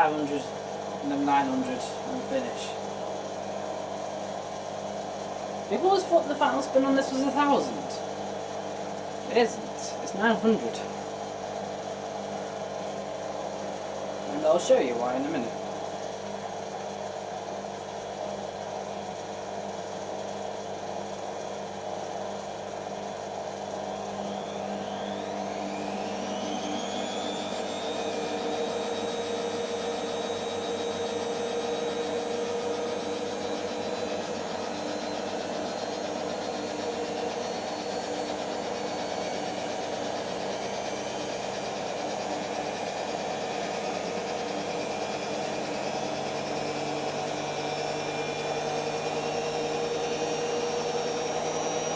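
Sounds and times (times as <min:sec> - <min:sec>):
washing machine motor whine: 0:00.0 - 0:51.9.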